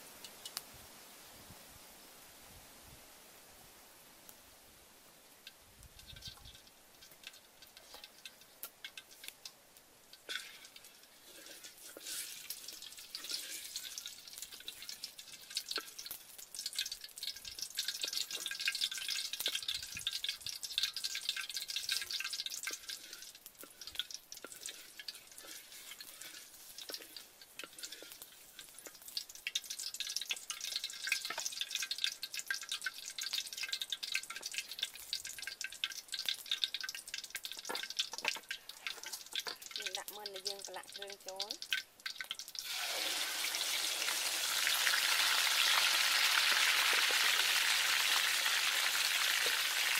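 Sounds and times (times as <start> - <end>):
oil crackling and spitting in wok: 0.0 - 0.6, 5.3 - 49.9.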